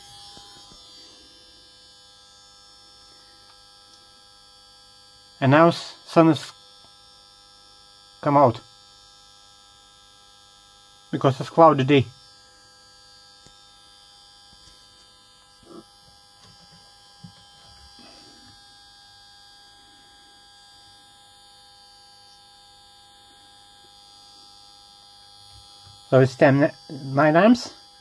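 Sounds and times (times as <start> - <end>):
electrical hum and whine: 0.0 - 28.0.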